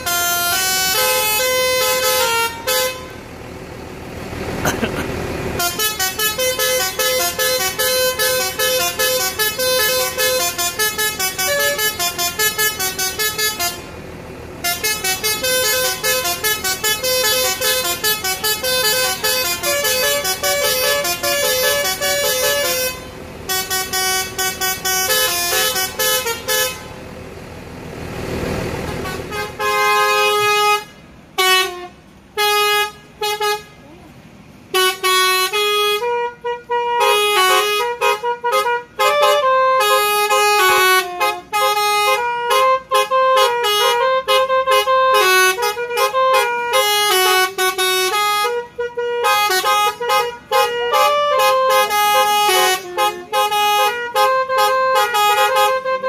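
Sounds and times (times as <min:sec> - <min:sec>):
musical horn tooting tune: 0:00.0 - 0:03.3, 0:05.6 - 0:14.0, 0:14.6 - 0:27.0, 0:28.8 - 0:34.0, 0:34.7 - 0:56.0.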